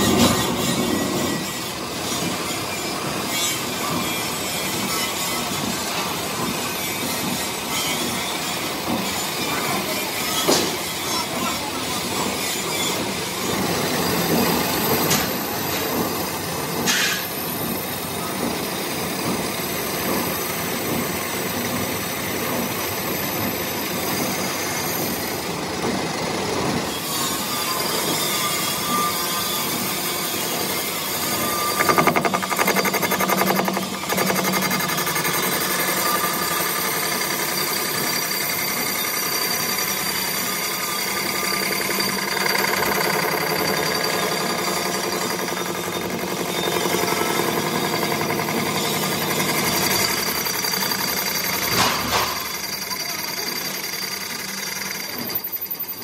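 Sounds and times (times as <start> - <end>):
metal lathe cutting steel: 0.0 - 56.0.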